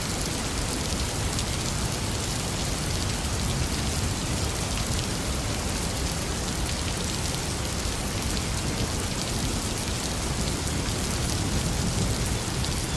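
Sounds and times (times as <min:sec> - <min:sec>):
heavy rain falling: 0:00.0 - 0:12.9.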